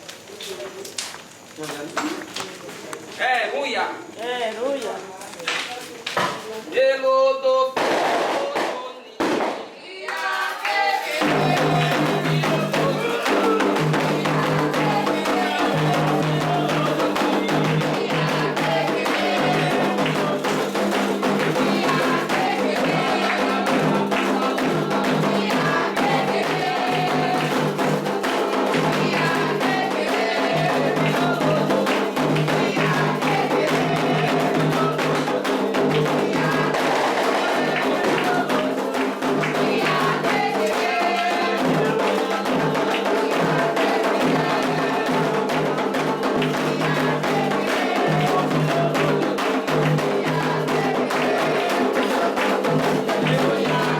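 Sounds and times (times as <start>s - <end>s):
group singing: 7.7s - 53.9s
hand drums: 7.8s - 53.9s.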